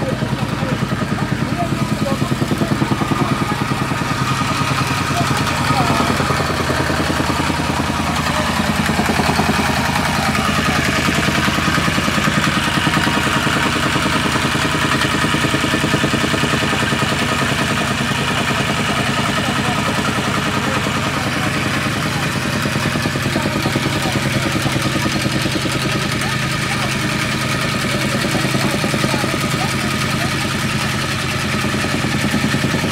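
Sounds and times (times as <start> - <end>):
tamping rammer pulsing: 0.0 - 32.9.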